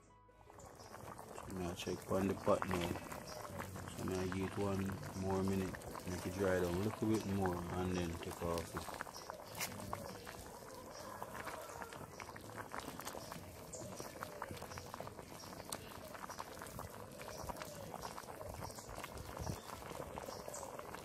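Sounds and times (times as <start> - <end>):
pot bubbling over fire: 0.4 - 21.0.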